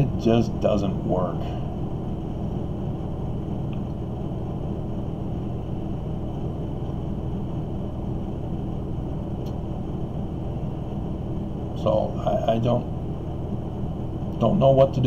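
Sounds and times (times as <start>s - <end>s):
faint high whine: 0.0s - 15.0s
low room rumble: 0.0s - 15.0s.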